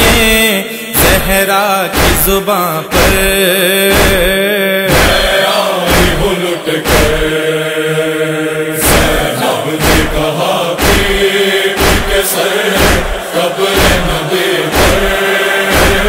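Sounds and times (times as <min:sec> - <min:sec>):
heavy rhythmic chest-beating thumps: 0:00.0 - 0:16.0
chorus chanting long held notes: 0:03.0 - 0:16.0.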